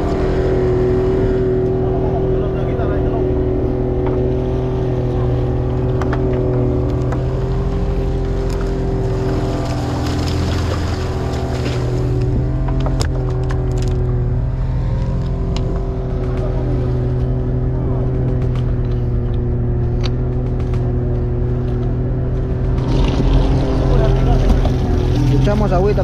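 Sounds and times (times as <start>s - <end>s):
boat motor running: 0.0s - 26.0s
water splashing along hull: 0.0s - 26.0s.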